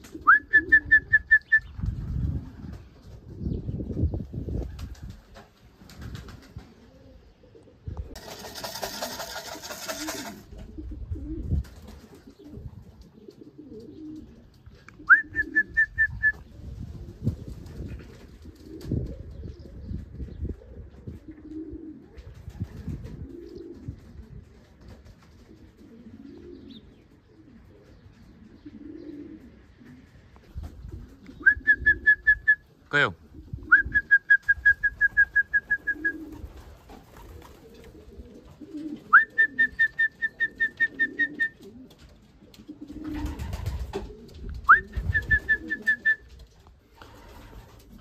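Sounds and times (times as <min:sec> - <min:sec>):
pigeons cooing: 0:00.0 - 0:48.0.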